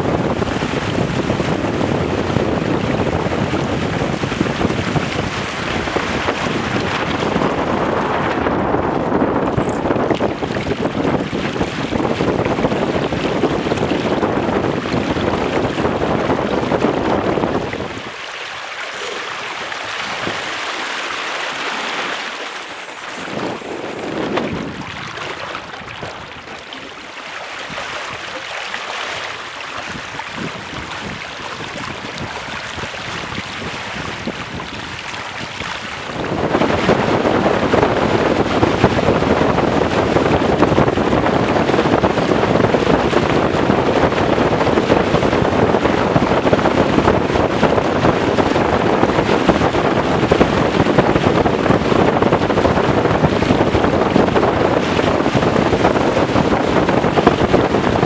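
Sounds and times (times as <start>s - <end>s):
water rushing along hulls: 0.0s - 58.0s
wind buffeting microphone: 0.0s - 58.0s.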